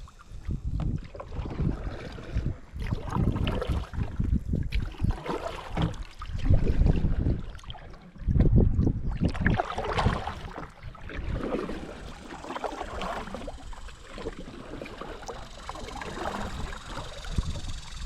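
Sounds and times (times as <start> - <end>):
kayak paddle splashing in water: 0.2 - 17.9.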